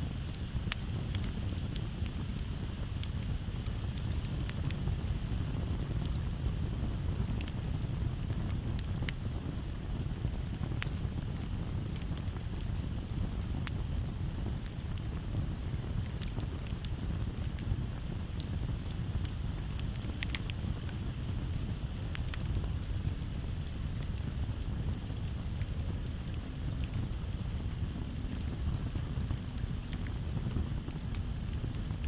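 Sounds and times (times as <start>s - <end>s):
campfire crackling: 0.0s - 32.0s
low rumble of breeze: 0.0s - 32.0s
crickets chirring: 0.1s - 32.0s.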